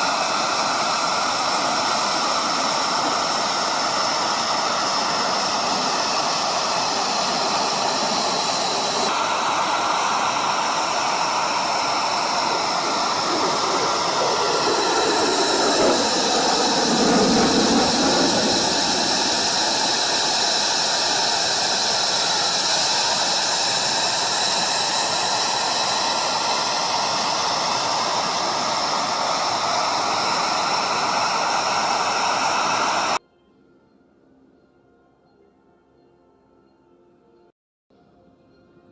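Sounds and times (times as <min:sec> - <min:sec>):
jet engine roaring and hissing: 0:00.0 - 0:33.2
jet passing close: 0:00.0 - 0:33.2.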